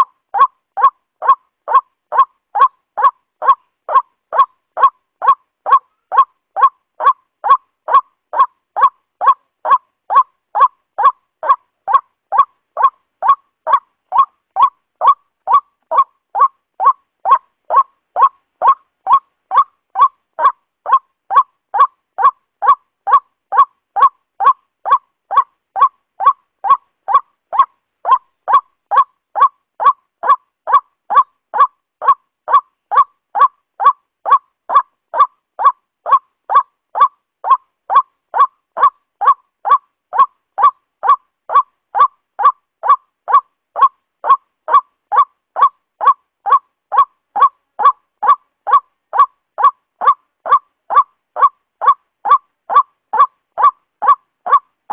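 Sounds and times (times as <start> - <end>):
waterhen honking call: 0.0 - 54.7.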